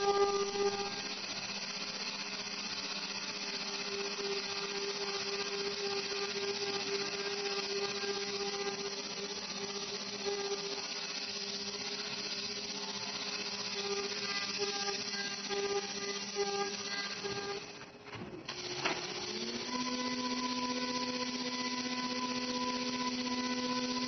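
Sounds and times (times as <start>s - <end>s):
milling machine whirring: 0.0s - 24.0s.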